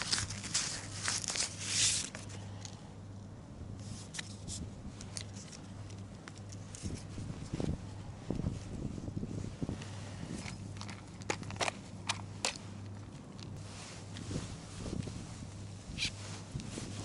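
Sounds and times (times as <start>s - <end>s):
rustling and crinkling: 0.0s - 2.8s, 3.7s - 17.0s
low steady hum: 0.0s - 17.0s.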